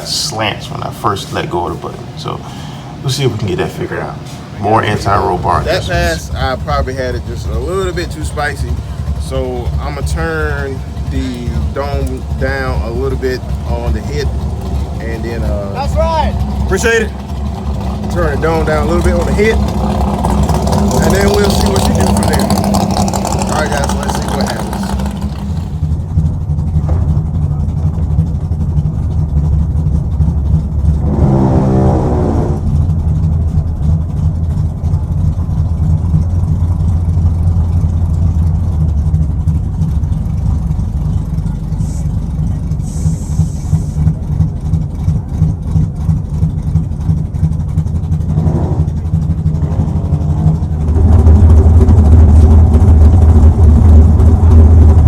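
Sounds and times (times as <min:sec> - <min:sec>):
car engine running and revving: 0:00.0 - 0:55.0.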